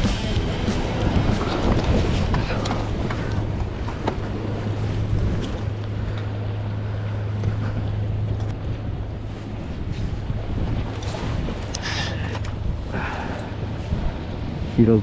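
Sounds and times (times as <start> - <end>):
boat engine humming: 0.0 - 15.0
wind noise on microphone: 0.0 - 15.0.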